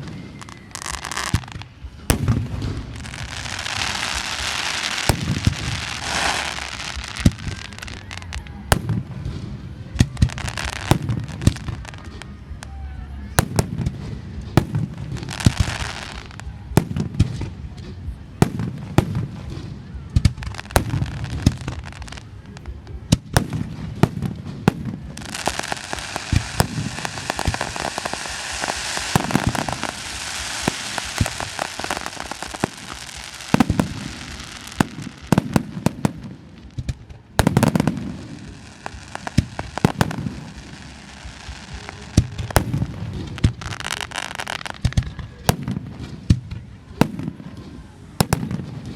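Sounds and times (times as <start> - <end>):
firework bangs and booms: 0.0 - 48.9
firework crackling: 0.0 - 48.9.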